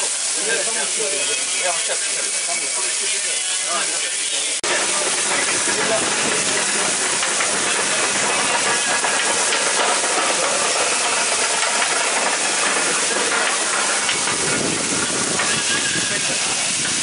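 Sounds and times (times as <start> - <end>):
food sizzling on a grill: 0.0 - 17.0.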